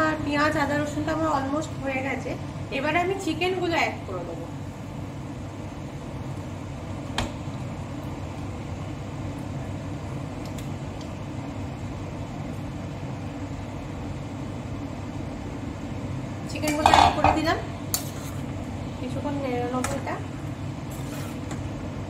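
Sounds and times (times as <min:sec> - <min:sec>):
low kitchen hum: 0:00.0 - 0:22.0.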